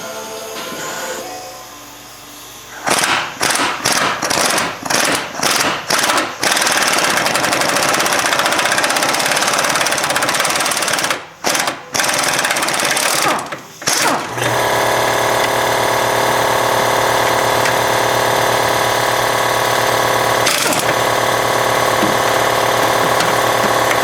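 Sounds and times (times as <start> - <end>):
pneumatic impact wrench: 2.7 - 24.0.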